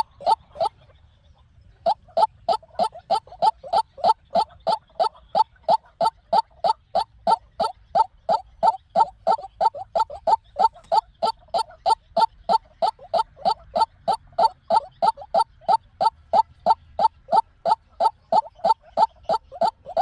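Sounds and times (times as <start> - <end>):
waterhen harsh calls: 0.0 - 0.8, 1.8 - 20.0.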